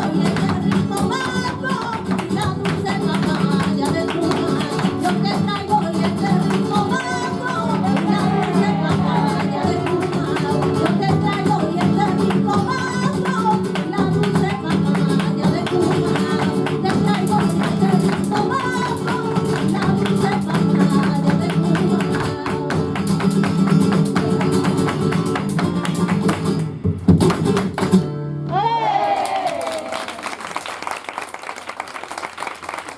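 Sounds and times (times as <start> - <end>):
flamenco guitar: 0.0 - 30.2.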